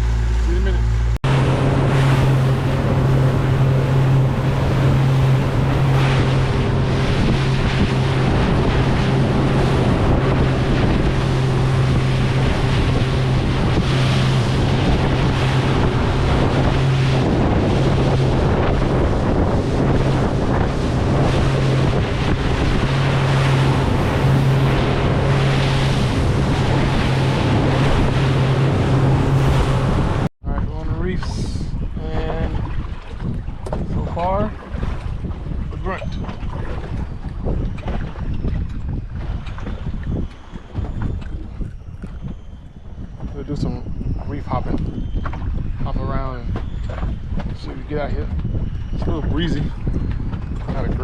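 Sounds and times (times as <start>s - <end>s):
outboard motor humming: 0.0s - 51.0s
rushing water from hull: 0.0s - 51.0s
wind buffeting microphone: 0.0s - 51.0s.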